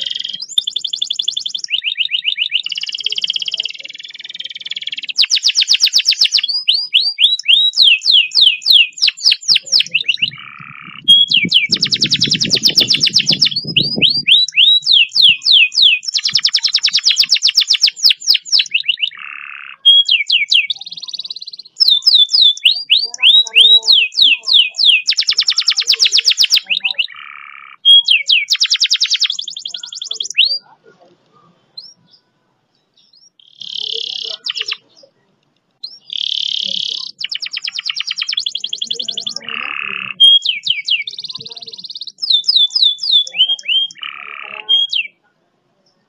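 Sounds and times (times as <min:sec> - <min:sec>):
canary singing rolling song: 0:00.0 - 0:46.0.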